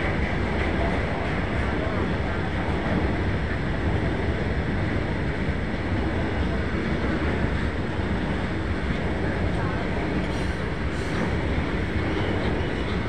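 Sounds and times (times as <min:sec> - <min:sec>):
freight wagons rumbling on rail: 0:00.0 - 0:13.0.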